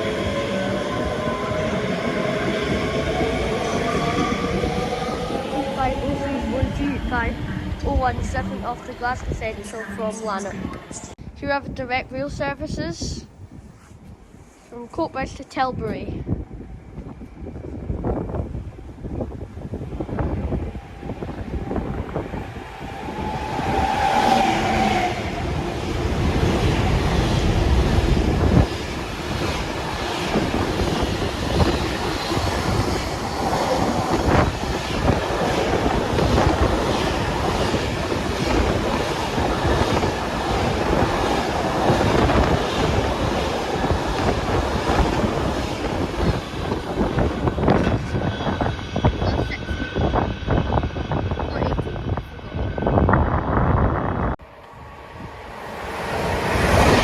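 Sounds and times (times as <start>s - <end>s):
freight train rumbling and clattering: 0.0s - 11.2s, 15.8s - 57.0s.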